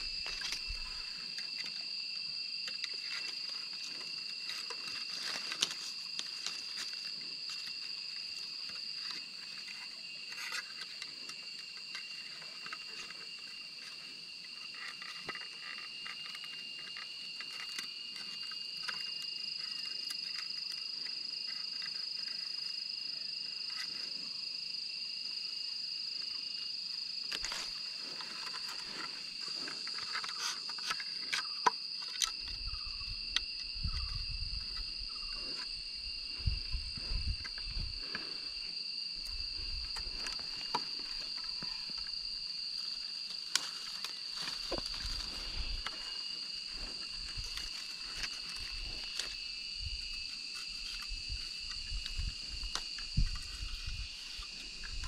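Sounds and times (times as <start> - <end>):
leaf rustle: 0.0 - 20.8, 27.3 - 32.4, 33.2 - 55.0
clicks and rustles of bamboo strips: 0.0 - 24.4, 25.2 - 55.0
insect drone: 0.0 - 55.0.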